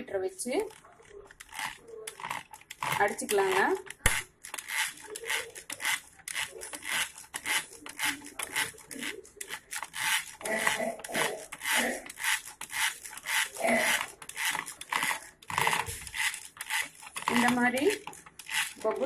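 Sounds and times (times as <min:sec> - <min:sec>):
whisk beating egg in bowl: 0:00.5 - 0:19.0.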